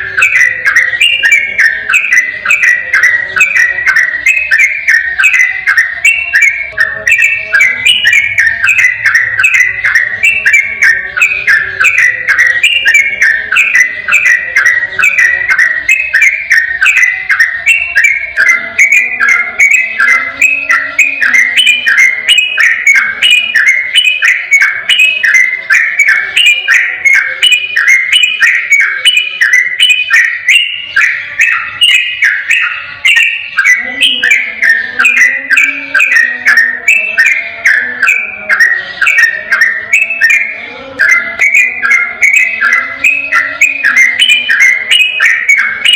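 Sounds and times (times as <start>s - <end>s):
bulbul singing rapid whistled notes: 0.0s - 45.9s.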